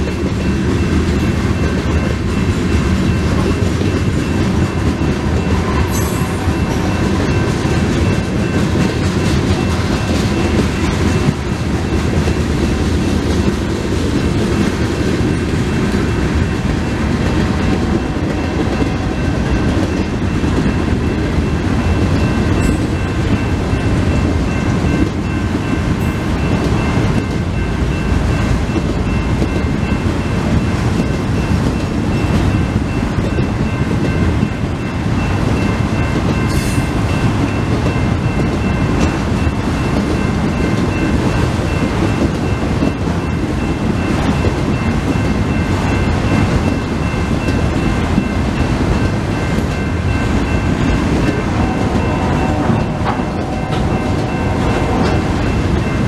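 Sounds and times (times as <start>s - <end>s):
crossing warning bell ringing: 0.0s - 56.0s
rumble of wheels on rail: 0.0s - 56.0s.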